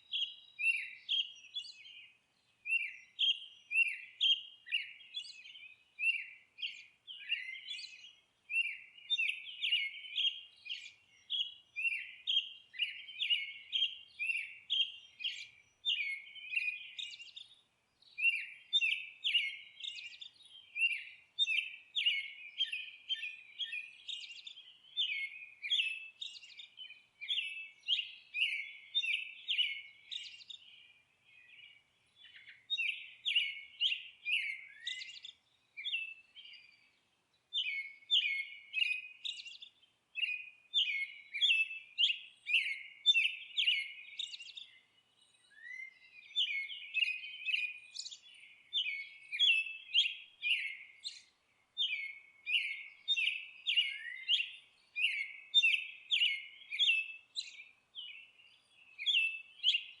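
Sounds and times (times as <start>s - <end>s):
songbirds chirping and twittering: 0.0s - 60.0s.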